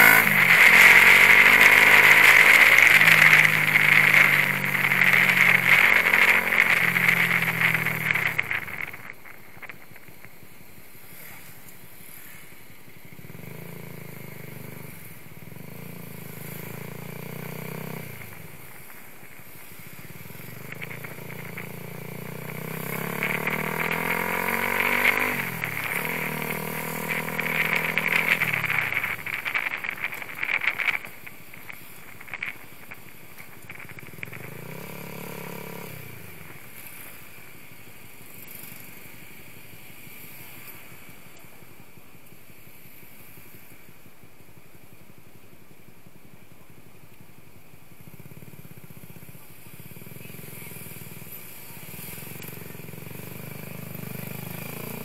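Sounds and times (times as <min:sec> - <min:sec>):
motorcycle engine accelerating: 0:00.0 - 0:43.3, 0:47.9 - 0:55.0.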